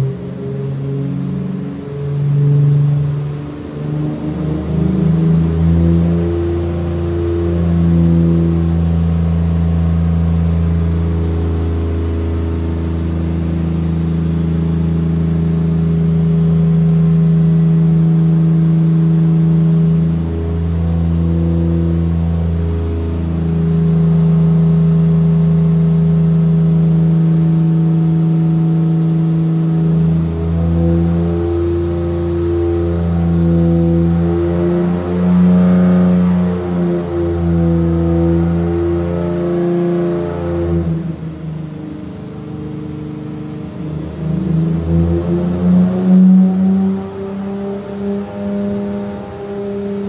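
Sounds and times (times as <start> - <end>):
car engine running at raised revs: 0.0 - 50.0.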